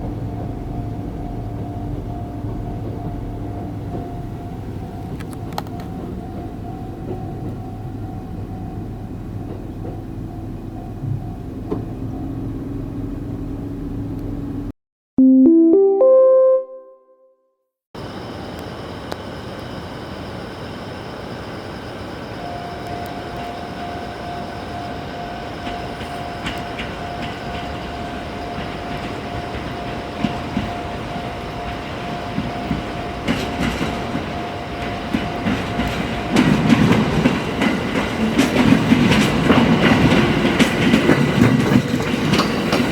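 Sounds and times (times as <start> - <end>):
train wheels on rails: 0.0 - 14.5, 19.5 - 42.9
electric train running hum: 0.0 - 14.7, 18.0 - 42.9.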